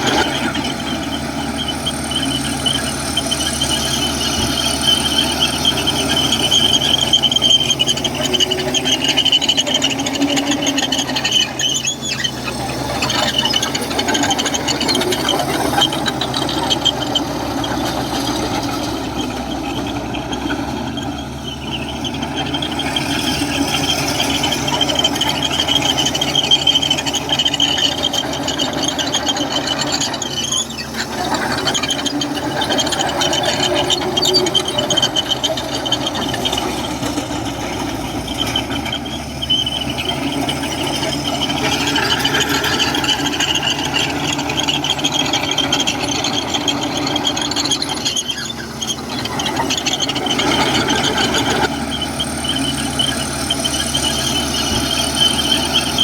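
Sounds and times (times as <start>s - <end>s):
bulldozer tracks squealing and rattling: 0.0s - 56.0s
diesel engine running: 0.0s - 56.0s.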